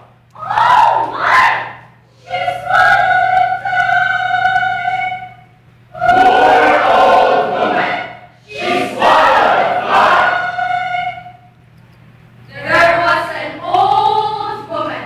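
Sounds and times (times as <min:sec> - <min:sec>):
choir singing held notes: 0:00.4 - 0:11.6, 0:12.5 - 0:15.0.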